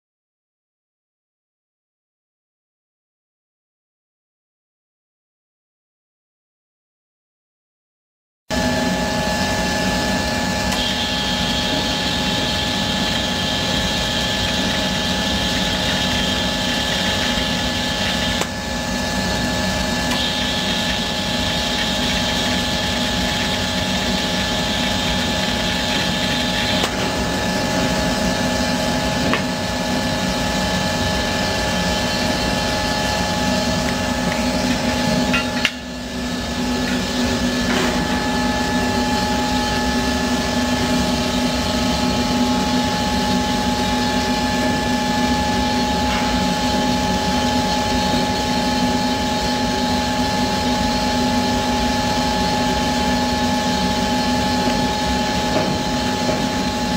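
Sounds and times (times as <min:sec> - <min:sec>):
booth equipment humming: 0:08.5 - 0:56.9.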